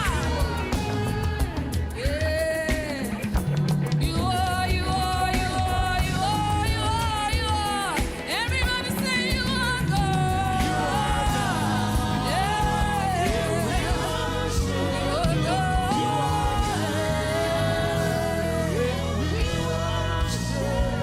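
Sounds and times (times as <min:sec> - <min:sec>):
keyboard accompaniment: 0:00.0 - 0:21.0
person singing gospel: 0:00.0 - 0:21.0.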